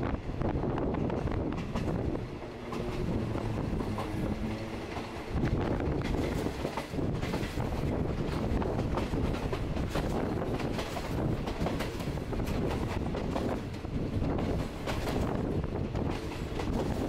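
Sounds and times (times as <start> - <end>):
train wheels rumbling on rails: 0.0 - 17.0
wheels clacking over rail joints: 1.0 - 17.0.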